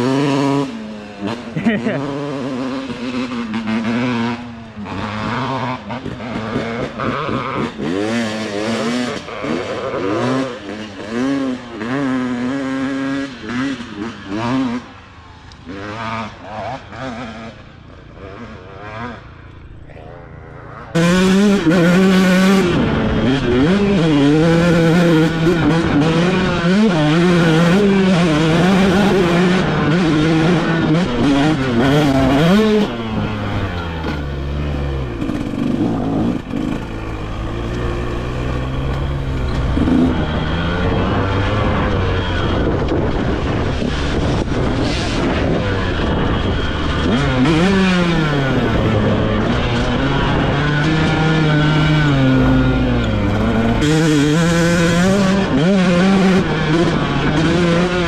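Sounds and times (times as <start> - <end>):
dirt bike engine close up: 0.0 - 58.0
dirt bike engines revving: 0.0 - 58.0.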